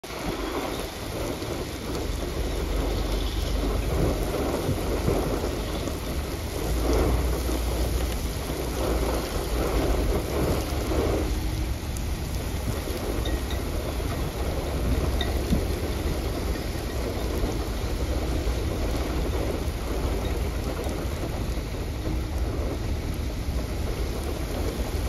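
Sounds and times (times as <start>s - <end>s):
low thunder rumble: 0.0s - 25.0s
rain falling: 0.0s - 25.0s.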